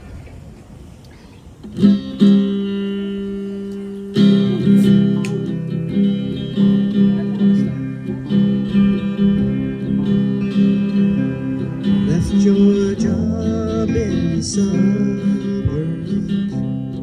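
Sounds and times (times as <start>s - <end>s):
guitar strumming: 1.6s - 17.0s.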